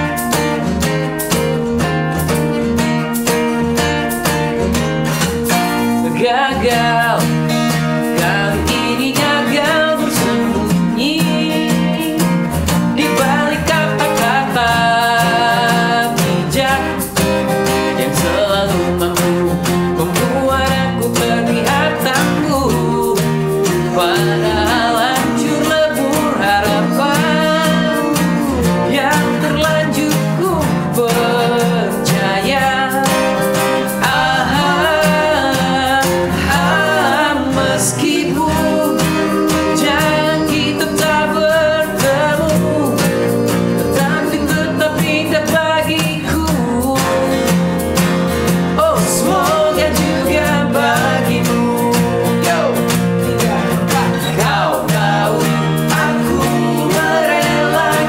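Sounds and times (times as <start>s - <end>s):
acoustic guitars strummed: 0.0s - 58.0s
man singing pop song: 5.5s - 58.0s
male harmony vocals: 6.0s - 47.6s, 48.6s - 58.0s.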